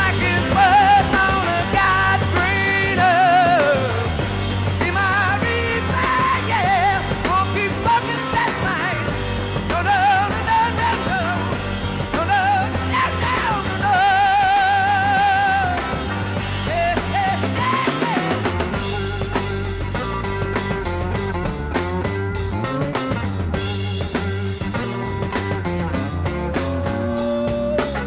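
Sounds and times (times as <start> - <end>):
hard rock band playing: 0.0 - 28.0.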